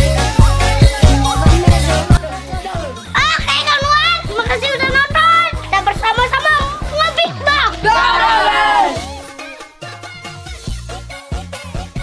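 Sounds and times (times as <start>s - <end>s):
upbeat music with plucked notes: 0.0s - 12.0s.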